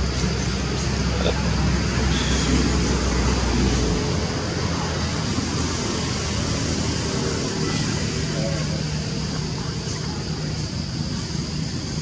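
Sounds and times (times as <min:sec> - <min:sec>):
hiss-like outdoor haze: 0:00.0 - 0:12.0.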